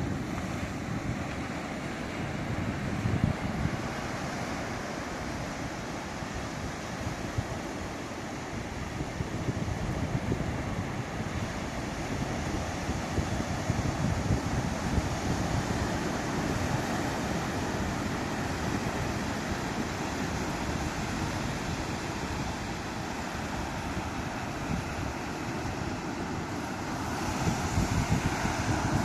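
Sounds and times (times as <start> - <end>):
waves breaking on shore: 0.0 - 29.0
wind buffeting microphone: 0.0 - 29.0.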